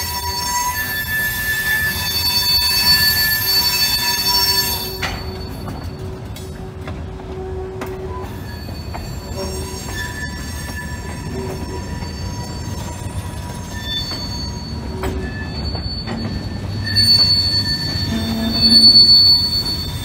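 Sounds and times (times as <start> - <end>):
wheel squeals: 0.0 - 6.9, 7.6 - 20.0.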